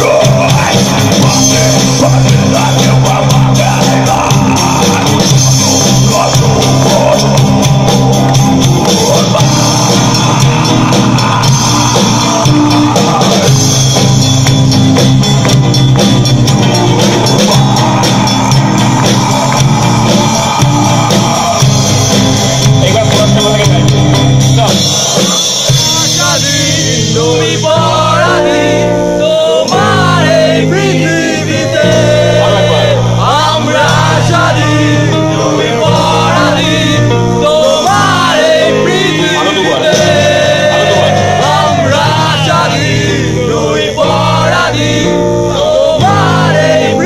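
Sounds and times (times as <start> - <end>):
person singing: 0.0 - 14.4, 16.6 - 24.0, 24.6 - 47.0
drum kit: 0.0 - 47.0
guitars: 0.0 - 47.0.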